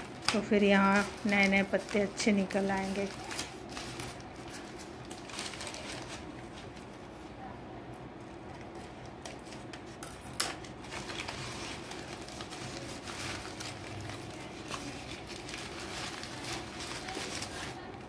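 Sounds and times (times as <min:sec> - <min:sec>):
newspaper rustling and crinkling: 0:00.0 - 0:07.1, 0:08.8 - 0:18.0.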